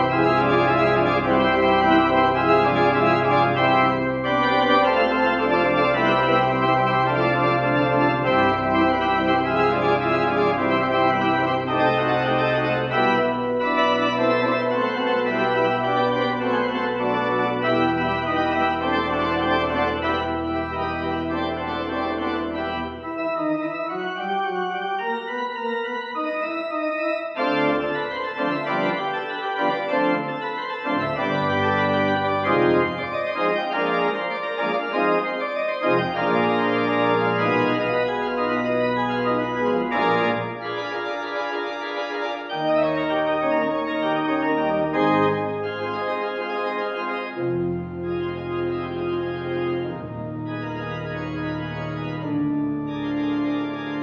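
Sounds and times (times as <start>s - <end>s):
church organ chords: 0.0s - 54.0s
deep organ pedal bass notes: 0.0s - 54.0s.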